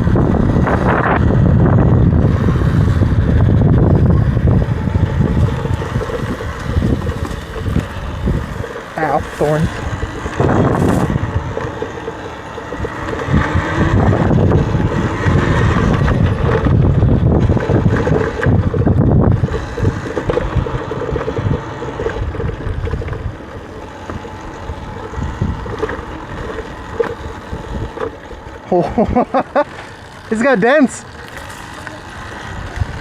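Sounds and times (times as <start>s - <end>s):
electric motor whine: 0.0s - 33.0s
wind buffeting microphone: 0.0s - 33.0s.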